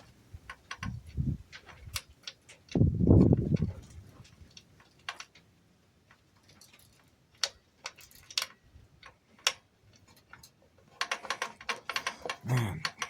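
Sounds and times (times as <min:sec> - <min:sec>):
light metal clicks and taps: 0:00.0 - 0:13.0.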